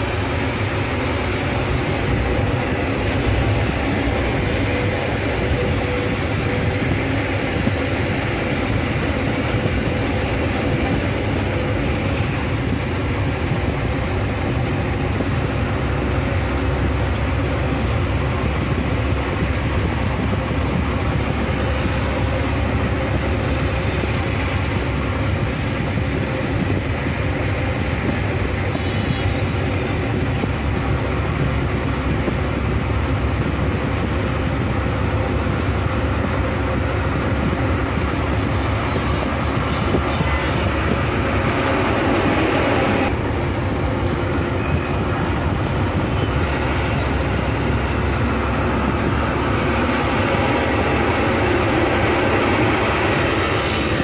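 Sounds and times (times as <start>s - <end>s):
bus engine and road rumble: 0.0s - 54.0s
tyre and wind hiss: 0.0s - 54.0s.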